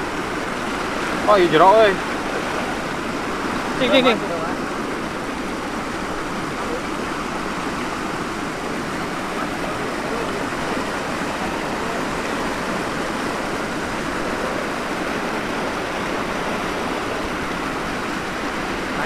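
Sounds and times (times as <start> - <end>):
mountain stream rushing over rocks: 0.0 - 19.0.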